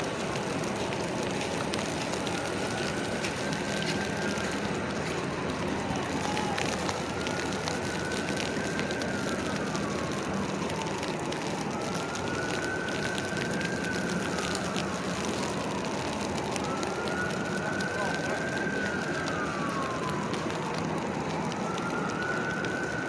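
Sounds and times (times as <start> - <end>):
city traffic: 0.0 - 23.0
siren wailing: 0.1 - 23.0.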